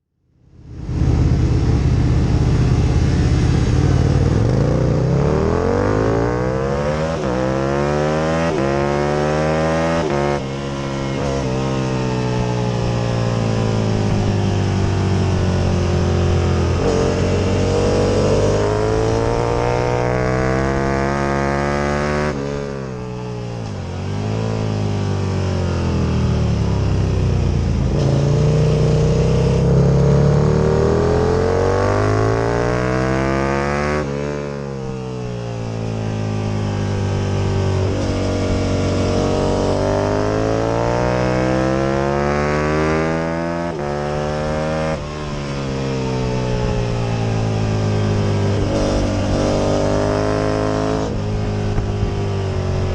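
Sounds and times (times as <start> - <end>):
motorcycle engine accelerating: 0.2 - 52.9.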